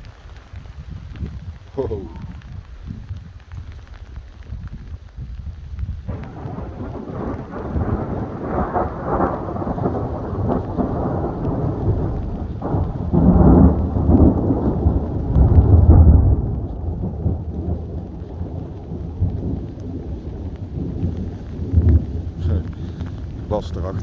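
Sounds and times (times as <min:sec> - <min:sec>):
thunder rumbling: 0:00.0 - 0:03.9, 0:04.6 - 0:24.0.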